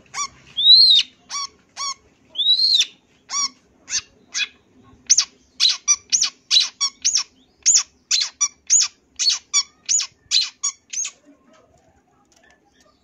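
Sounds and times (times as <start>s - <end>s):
shrike calling: 0.2s - 11.2s.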